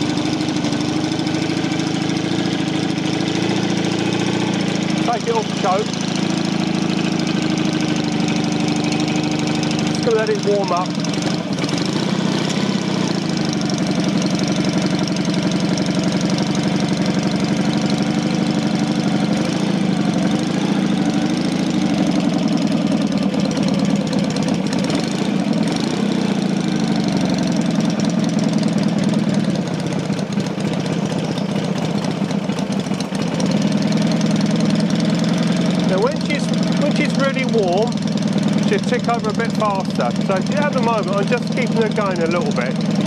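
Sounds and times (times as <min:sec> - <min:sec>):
motorcycle engine fast idle: 0:00.0 - 0:43.0.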